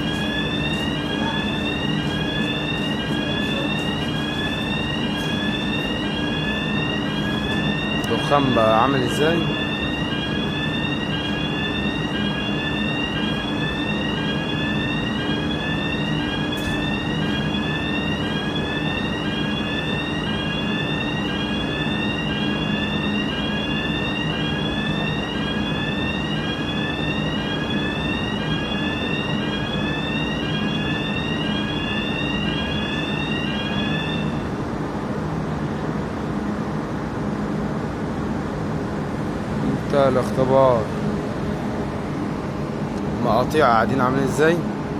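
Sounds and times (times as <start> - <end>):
fire alarm rising sweep tone: 0.0 - 34.6, 43.2 - 44.7
low ventilation hum: 0.0 - 44.9.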